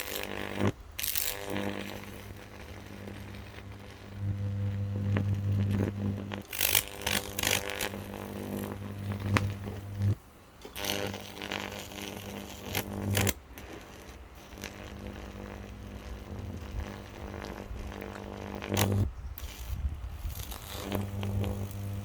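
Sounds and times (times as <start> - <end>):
circuit board crackling: 0.0 - 22.0.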